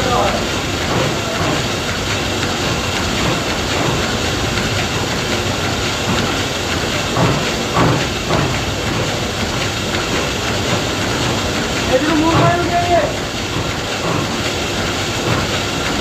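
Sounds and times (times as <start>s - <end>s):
combine harvester rumble and clatter: 0.0s - 16.0s.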